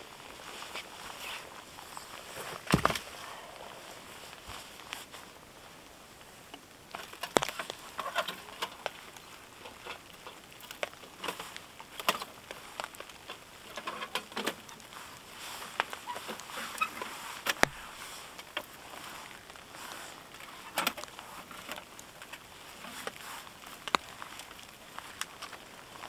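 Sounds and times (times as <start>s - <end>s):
rustling of camping gear: 0.0s - 26.0s.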